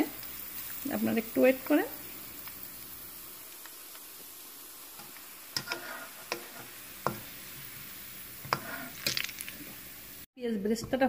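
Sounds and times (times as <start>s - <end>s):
onions sizzling in hot oil: 0.0s - 10.3s
skimmer and spoon scraping wok: 0.0s - 10.3s.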